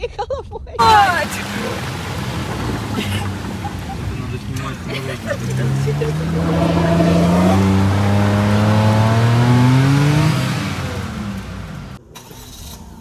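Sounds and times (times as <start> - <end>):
car engine revving: 0.8 - 12.8.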